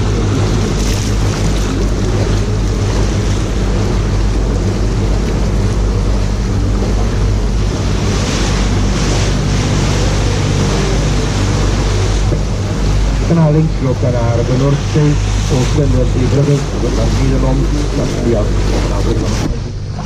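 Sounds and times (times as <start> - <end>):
boat engine humming: 0.0 - 20.0
water wash: 0.0 - 20.0.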